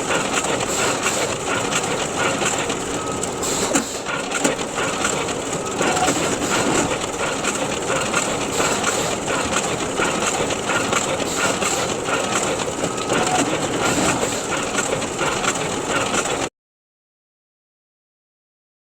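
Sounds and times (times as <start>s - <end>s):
photocopier whirring and clicking: 0.0s - 16.5s.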